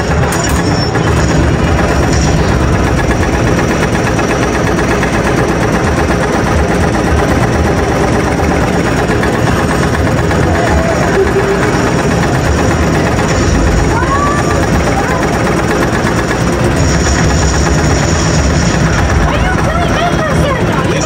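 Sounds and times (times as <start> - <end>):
loud engine rumble: 0.0 - 21.0.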